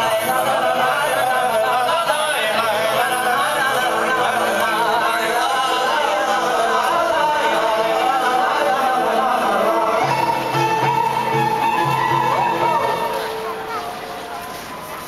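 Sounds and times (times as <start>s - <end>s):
person singing a lyrical song: 0.0s - 13.6s.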